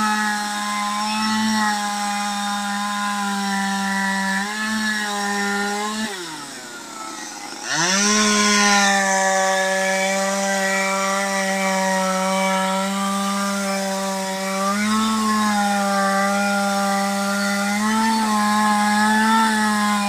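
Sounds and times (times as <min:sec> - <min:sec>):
chainsaw cutting into log: 0:00.0 - 0:20.0.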